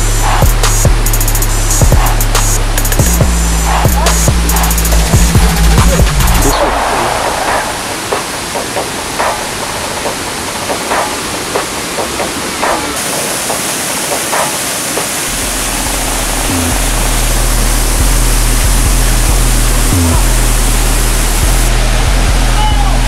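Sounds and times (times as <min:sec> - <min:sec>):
music with deep bass: 0:00.0 - 0:11.2, 0:15.2 - 0:23.0
water rushing over boulders: 0:00.0 - 0:23.0.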